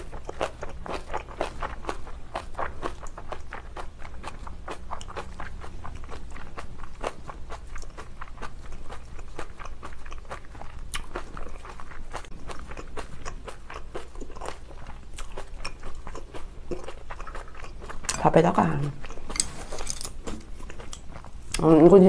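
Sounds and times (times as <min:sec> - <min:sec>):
chewing wet crunches: 0:00.0 - 0:21.7.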